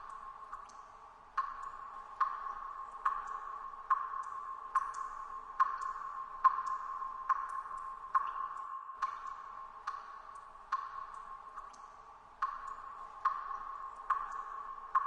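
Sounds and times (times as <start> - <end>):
water dripping: 0.0 - 15.0.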